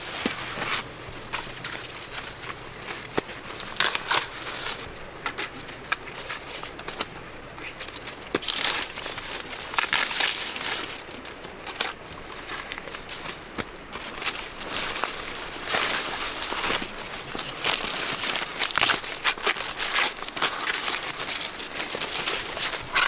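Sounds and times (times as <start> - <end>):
rustling and crackling: 0.0 - 23.0.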